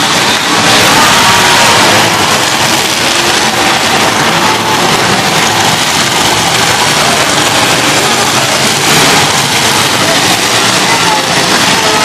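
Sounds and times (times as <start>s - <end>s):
car engines running: 0.0s - 12.0s
cars grinding against each other: 0.0s - 12.0s.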